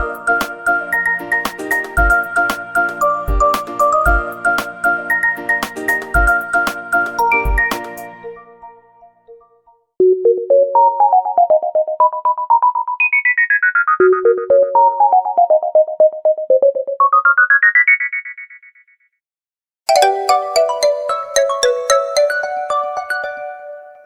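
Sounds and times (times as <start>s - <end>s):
synthesized ringtone melody: 0.0s - 18.4s, 19.9s - 24.0s.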